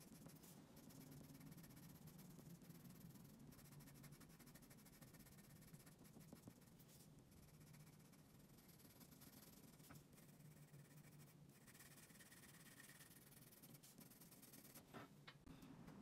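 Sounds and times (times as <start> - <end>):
pencil scratching on paper: 0.0 - 14.9.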